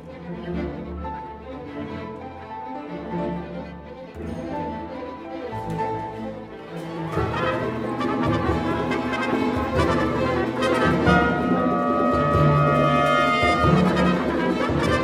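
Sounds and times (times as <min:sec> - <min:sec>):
orchestra with prominent brass: 0:00.0 - 0:15.0.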